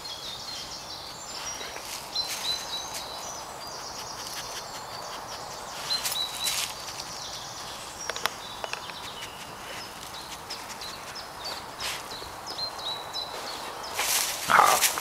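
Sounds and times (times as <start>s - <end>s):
small birds chirping: 0.0s - 15.0s
paws rustling dry leaves: 1.2s - 8.1s, 9.0s - 15.0s.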